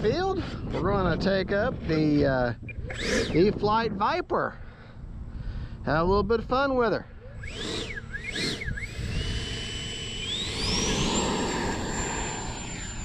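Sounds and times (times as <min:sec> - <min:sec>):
electric ducted fan whine: 0:00.0 - 0:13.0.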